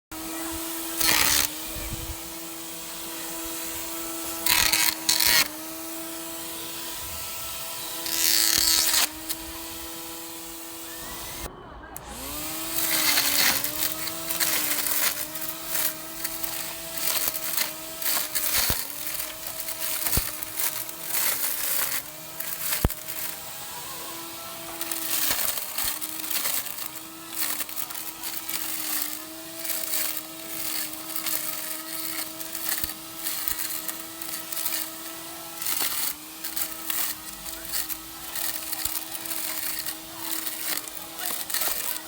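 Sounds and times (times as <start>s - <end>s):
lawn mower motor whining: 0.0s - 42.0s
blade cutting grass: 0.1s - 42.0s.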